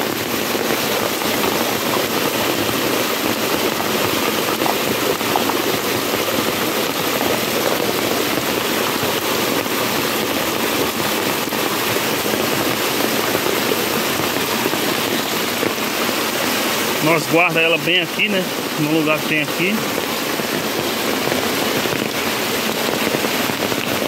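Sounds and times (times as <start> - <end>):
water rushing down rock channel: 0.0 - 24.0.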